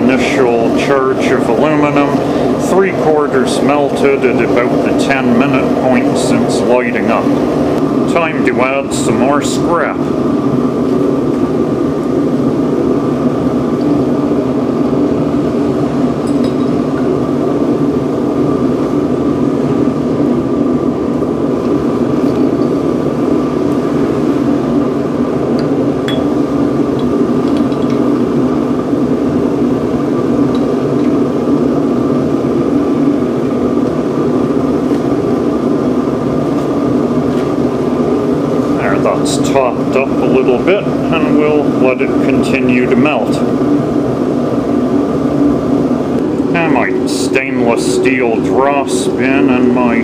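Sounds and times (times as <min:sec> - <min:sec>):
blower hum: 0:00.0 - 0:50.0
burner flame rushing: 0:00.0 - 0:50.0.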